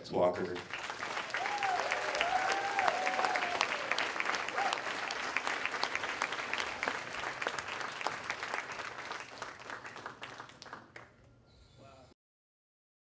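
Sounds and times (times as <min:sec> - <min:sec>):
audience applauding: 0:00.4 - 0:11.2.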